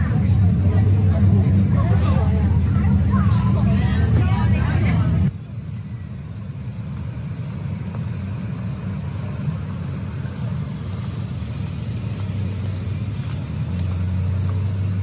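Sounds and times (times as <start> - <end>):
rumble of cars driving past: 0.0 - 15.0.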